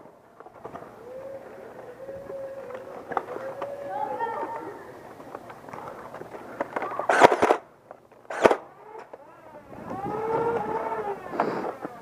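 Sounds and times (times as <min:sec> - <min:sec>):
flywheel motors whining: 0:00.0 - 0:12.0.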